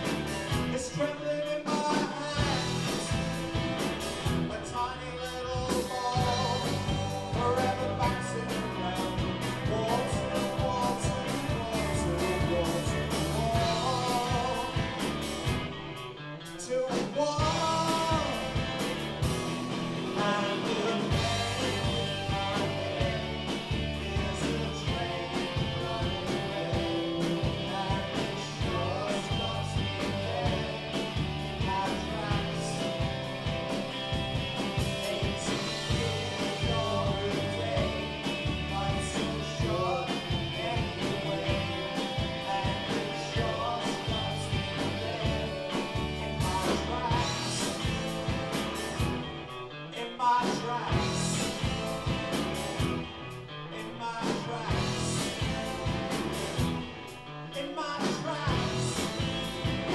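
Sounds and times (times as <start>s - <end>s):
drums: 0.0s - 59.9s
electric guitars: 0.0s - 59.9s.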